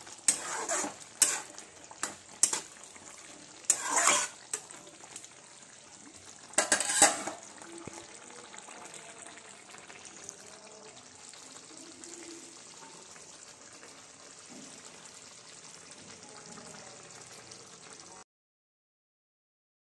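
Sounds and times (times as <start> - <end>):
curry simmering with faint sizzle: 0.0 - 18.3.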